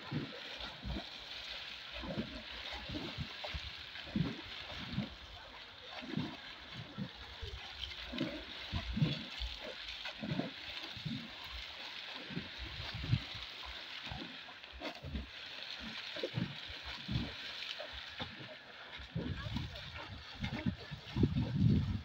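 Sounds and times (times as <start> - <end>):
swimmer splashing: 0.0 - 22.0.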